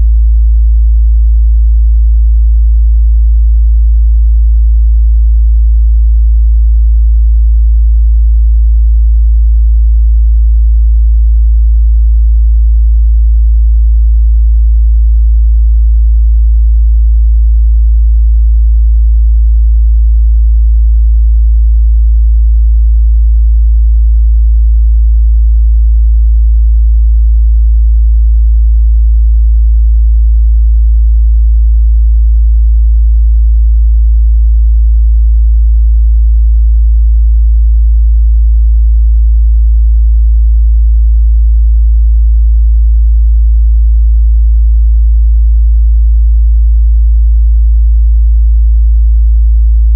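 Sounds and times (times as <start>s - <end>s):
low sine-wave test tone: 0.0s - 39.2s, 39.8s - 40.8s, 43.6s - 46.2s.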